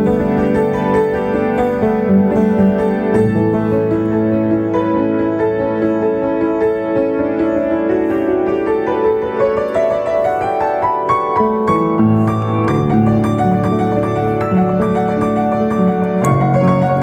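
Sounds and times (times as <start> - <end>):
piano playing worship song: 0.0 - 17.0.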